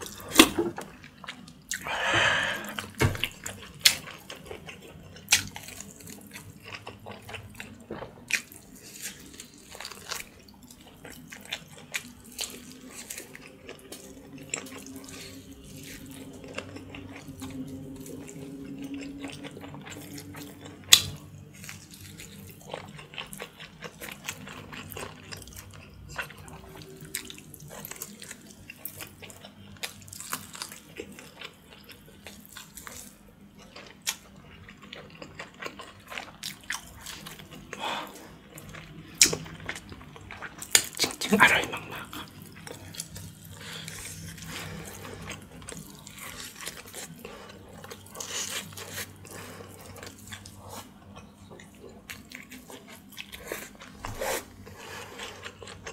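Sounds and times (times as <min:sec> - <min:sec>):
person sucking and chewing meat: 0:01.4 - 0:55.9.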